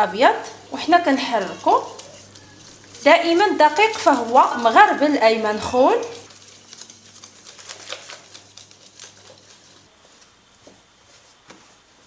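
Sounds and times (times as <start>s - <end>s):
utensil stirring dough in bowl: 0.0s - 12.0s.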